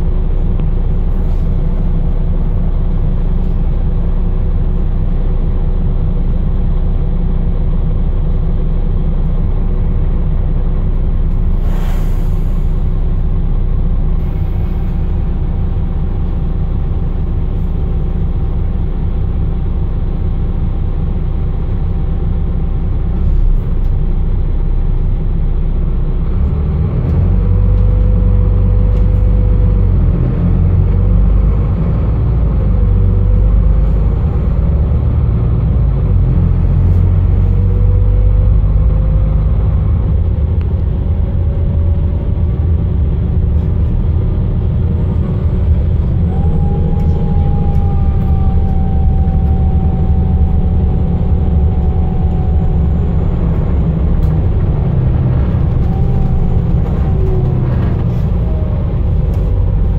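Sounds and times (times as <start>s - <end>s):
drivetrain whine: 0.0s - 11.8s, 12.4s - 59.9s
bus diesel engine running: 0.0s - 59.9s.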